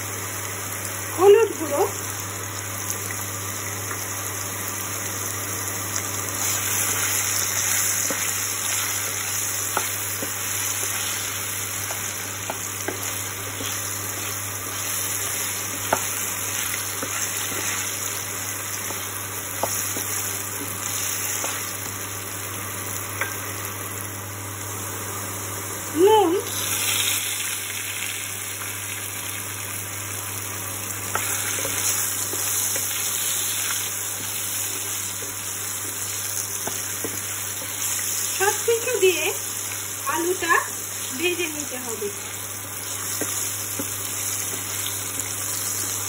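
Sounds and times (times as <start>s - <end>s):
potatoes sizzling in hot oil: 0.0s - 46.0s.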